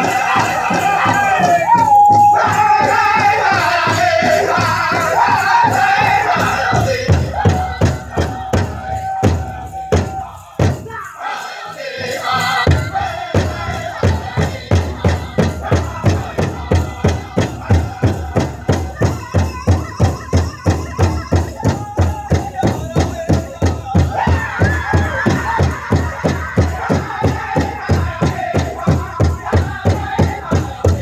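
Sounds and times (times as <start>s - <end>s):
big drum beating: 0.0s - 11.0s, 12.6s - 31.0s
group singing: 0.0s - 31.0s.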